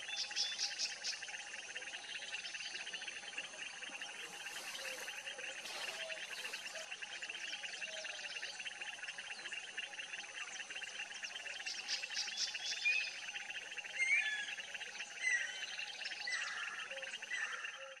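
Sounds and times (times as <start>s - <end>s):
fast pulsing insect chorus: 0.0s - 17.9s.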